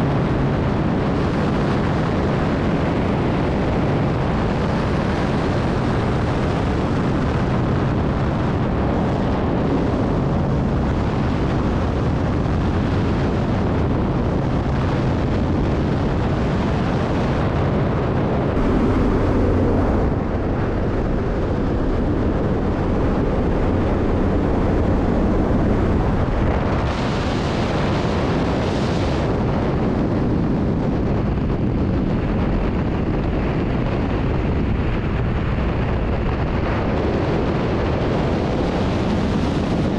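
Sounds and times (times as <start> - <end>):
aircraft engine roar: 0.0 - 39.9
wind rushing over microphone: 0.0 - 39.9.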